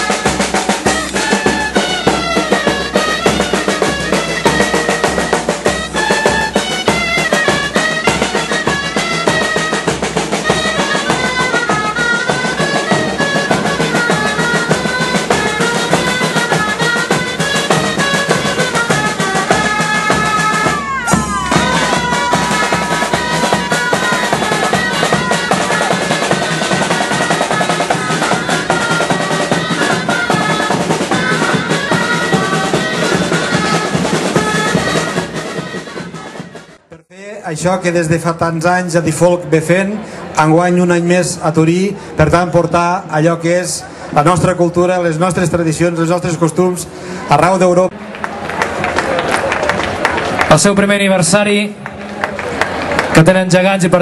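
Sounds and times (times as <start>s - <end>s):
drumming: 0.0s - 39.2s, 47.3s - 54.0s
shawms playing lively tune: 0.0s - 54.0s.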